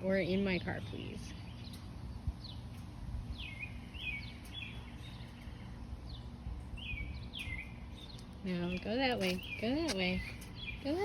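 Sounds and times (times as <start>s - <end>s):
steady low rumble: 0.0s - 11.0s
bird chirping: 0.9s - 11.0s.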